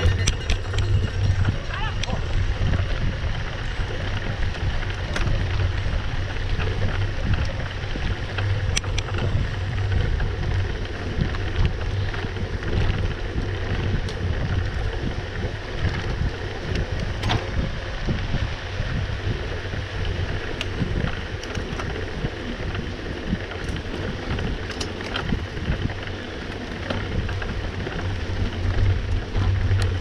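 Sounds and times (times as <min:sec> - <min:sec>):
bike rattles: 0:00.0 - 0:30.0
bike tyre rumble on dirt: 0:00.0 - 0:30.0
wind buffeting microphone: 0:00.0 - 0:30.0.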